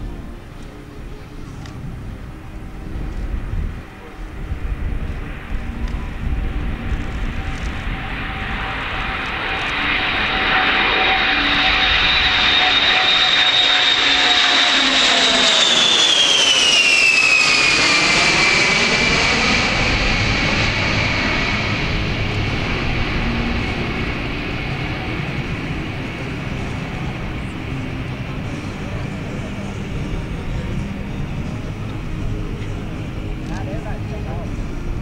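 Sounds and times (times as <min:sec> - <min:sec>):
jet flyover with high whine: 0:00.0 - 0:35.0.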